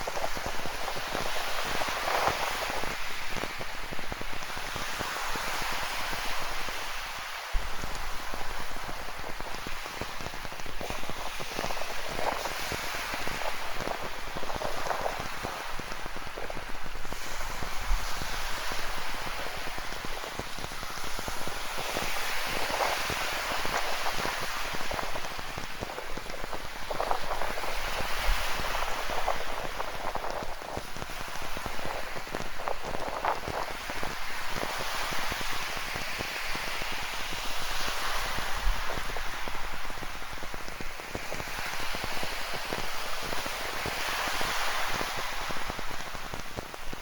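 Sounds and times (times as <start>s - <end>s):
ocean surf: 0.0s - 47.0s
steady rain: 0.0s - 47.0s.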